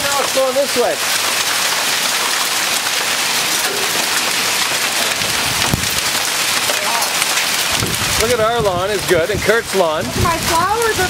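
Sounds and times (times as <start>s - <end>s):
hail and heavy rain pelting: 0.0s - 11.0s.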